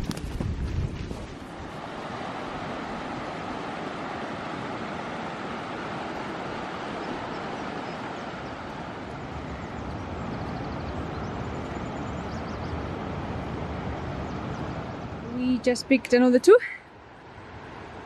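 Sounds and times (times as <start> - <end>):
steady rushing outdoor noise: 0.0 - 18.0.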